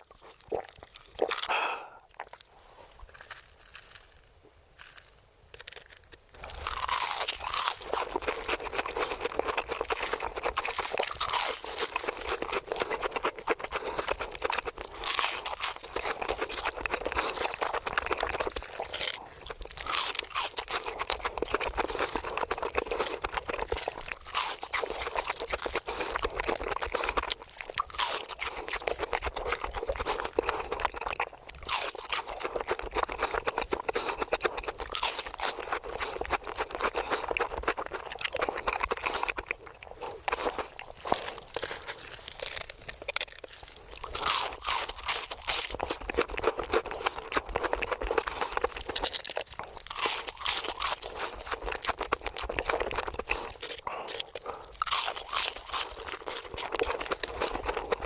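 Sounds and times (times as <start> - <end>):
crunchy food being chewed: 0.0 - 58.0.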